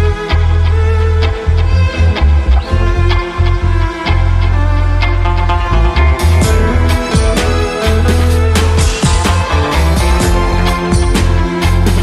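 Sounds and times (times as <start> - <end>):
music with heavy bass and beat: 0.0 - 12.0.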